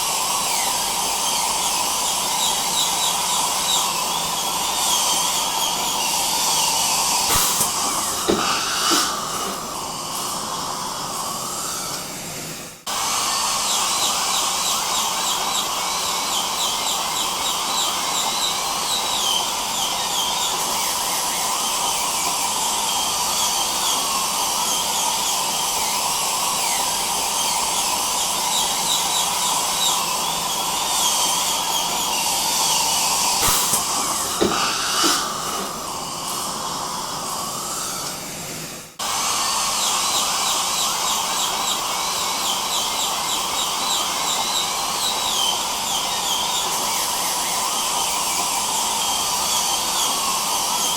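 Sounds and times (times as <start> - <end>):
suction hiss: 0.0 - 21.2, 21.8 - 48.2
dental drill whine: 0.0 - 50.9.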